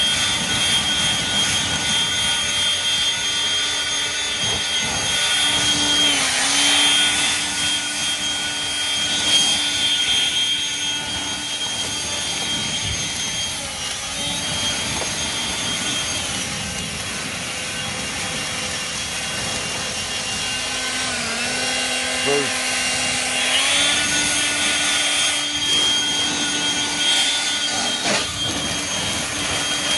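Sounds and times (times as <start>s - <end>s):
leaf blower whining: 0.0s - 29.9s.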